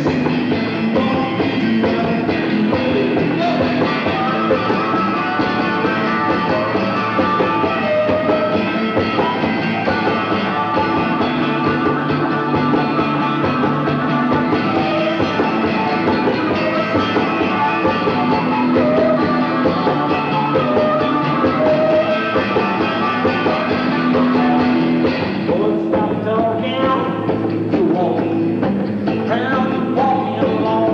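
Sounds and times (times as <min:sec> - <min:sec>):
electric guitar: 0:00.0 - 0:30.9
live rock band playing: 0:00.0 - 0:30.9.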